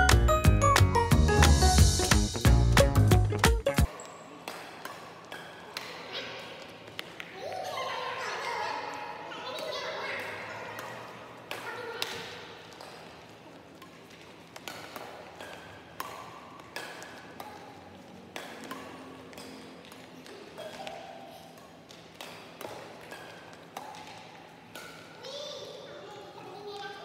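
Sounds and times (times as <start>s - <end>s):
rackets striking shuttlecock: 0.1s - 7.4s, 9.6s - 25.2s.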